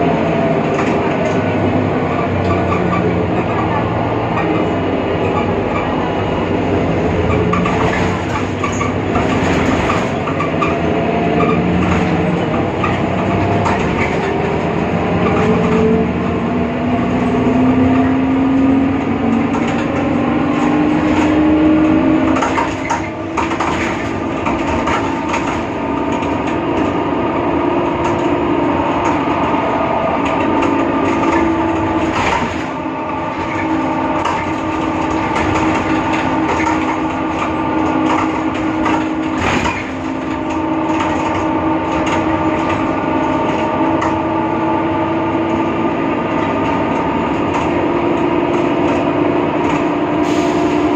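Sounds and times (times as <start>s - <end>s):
bus drivetrain whine: 0.0s - 50.9s.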